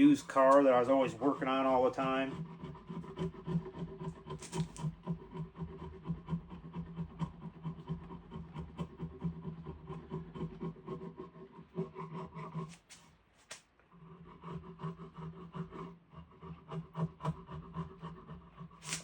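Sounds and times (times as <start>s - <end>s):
hand rasping on wood: 0.0s - 13.0s, 13.9s - 19.0s.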